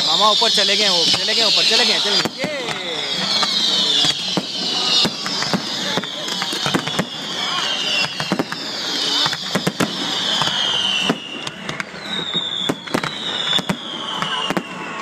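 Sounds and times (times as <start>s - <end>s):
falling firework whistles: 0.0s - 15.0s
fireworks bangs and crackling: 0.0s - 15.0s.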